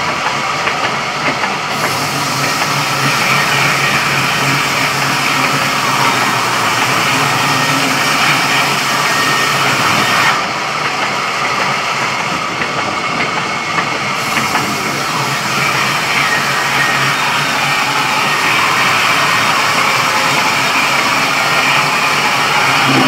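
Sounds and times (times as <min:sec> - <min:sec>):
sawmill machinery humming: 0:00.0 - 0:23.0.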